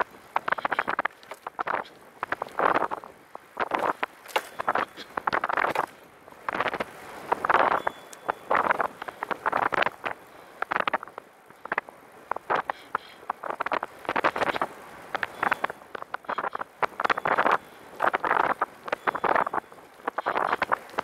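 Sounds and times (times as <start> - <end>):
trike rattling over rough asphalt: 0.0 - 21.0.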